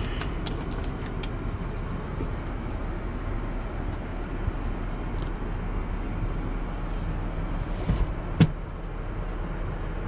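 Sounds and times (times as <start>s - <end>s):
aircraft cabin noise: 0.0s - 8.8s.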